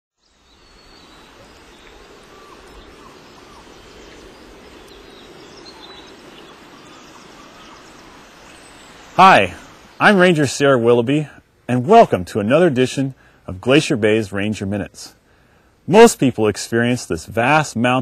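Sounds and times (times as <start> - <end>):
steady low hiss: 0.2 - 18.0.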